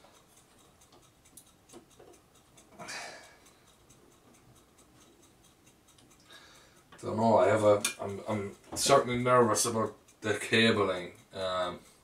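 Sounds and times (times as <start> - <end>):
screwdriver ticking and clicking: 0.0 - 12.0.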